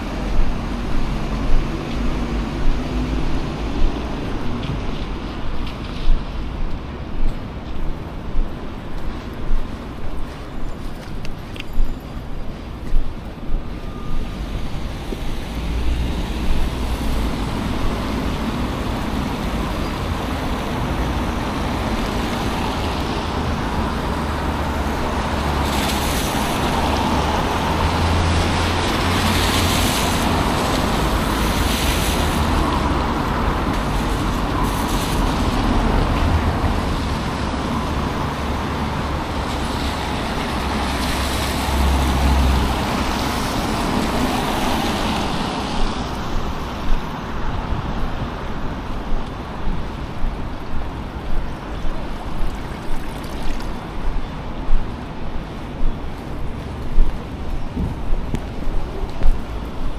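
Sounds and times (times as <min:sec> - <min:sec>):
passing cars and heavy vehicles: 0:00.0 - 0:59.9.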